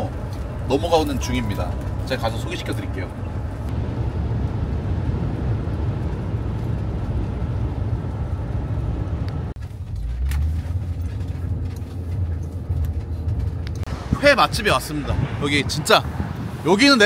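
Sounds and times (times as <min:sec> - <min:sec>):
dull deep rumble: 0:00.0 - 0:16.7
vehicle engine and road rumble: 0:00.0 - 0:17.0.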